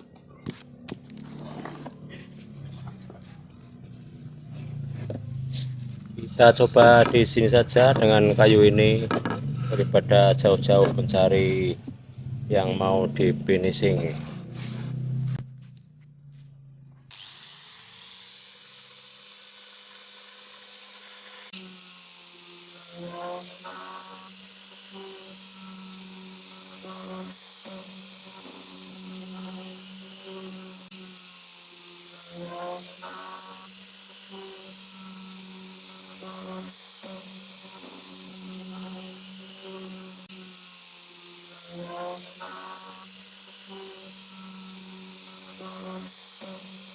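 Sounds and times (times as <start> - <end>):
power tool motor whining: 0.0 - 46.9
sanding pad against wood: 0.1 - 11.9, 12.5 - 15.4, 17.1 - 46.9.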